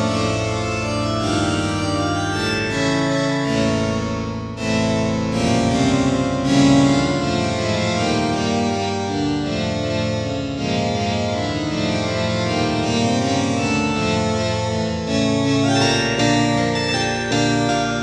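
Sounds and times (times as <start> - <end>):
harpsichord playing slow chords: 0.0 - 18.0.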